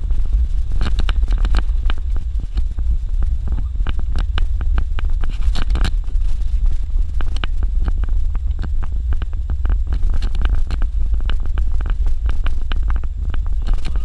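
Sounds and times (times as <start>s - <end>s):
vehicle rumble on dirt road: 0.0s - 14.0s
sharp clicks and knocks: 0.7s - 2.7s, 3.5s - 6.2s, 7.2s - 14.0s.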